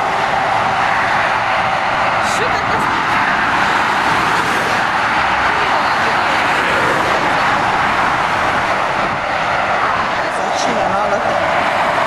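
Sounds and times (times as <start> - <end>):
dense motorway traffic: 0.0 - 12.0.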